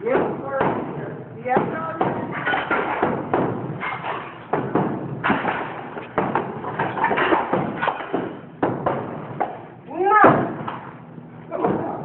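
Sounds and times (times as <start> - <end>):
construction knocks and thuds: 0.0 - 12.0.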